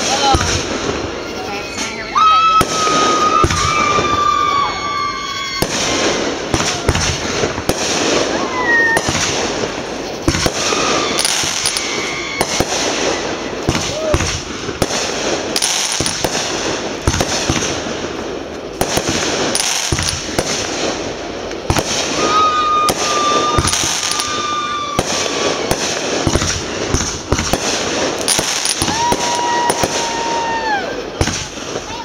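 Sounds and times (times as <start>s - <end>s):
firework crackling: 0.0s - 32.0s
firework whistles: 0.0s - 32.0s
firework shells bursting: 2.6s - 31.9s.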